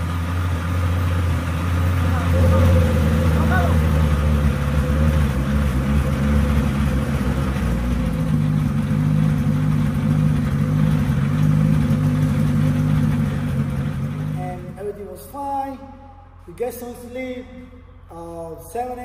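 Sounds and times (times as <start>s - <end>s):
car engine running: 0.0s - 18.1s.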